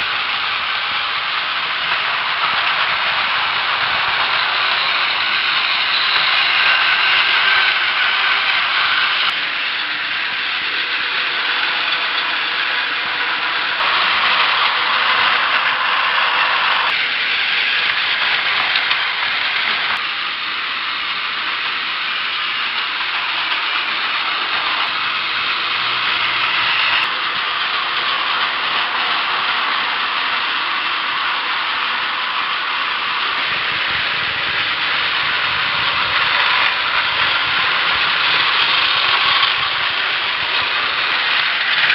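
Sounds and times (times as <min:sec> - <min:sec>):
toy train motors whirring: 0:00.0 - 0:41.9.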